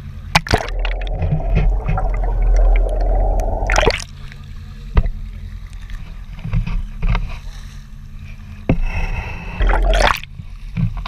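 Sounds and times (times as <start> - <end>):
water gurgling and sloshing: 0.0 - 11.0.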